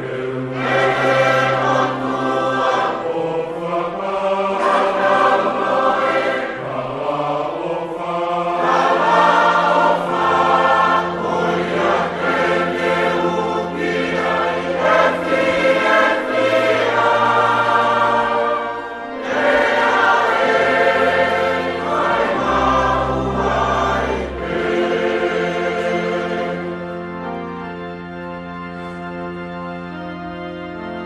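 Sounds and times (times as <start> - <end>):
choir singing gospel: 0.0 - 31.0
low accompaniment notes: 0.0 - 31.0.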